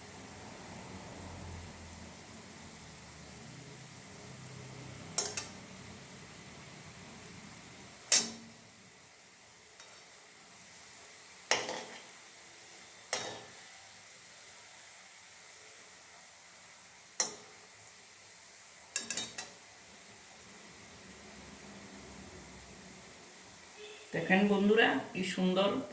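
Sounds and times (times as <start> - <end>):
dough frying in oil: 0.0 - 25.9.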